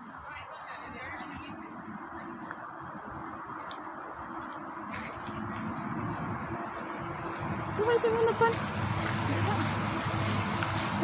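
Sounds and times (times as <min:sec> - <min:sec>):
insects droning: 0:00.0 - 0:11.0
rustling vegetation: 0:00.0 - 0:11.0.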